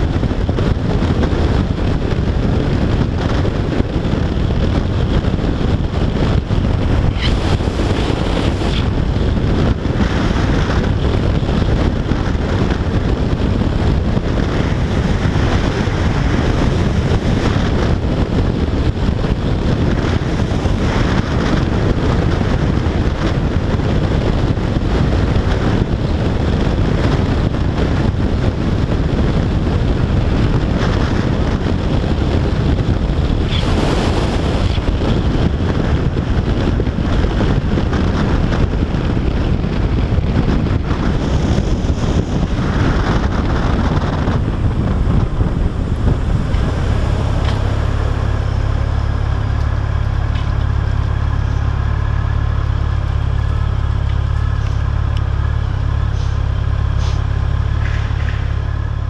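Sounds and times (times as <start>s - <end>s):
motorcycle engine running: 0.0s - 59.0s
road noise: 0.0s - 59.0s
wind rush on microphone: 0.0s - 59.0s.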